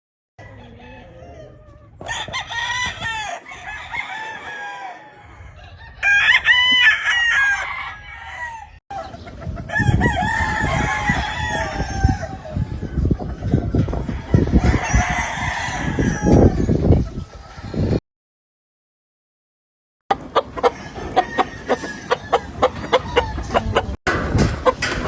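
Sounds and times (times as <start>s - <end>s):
roosters crowing: 0.4s - 18.0s, 20.1s - 25.0s.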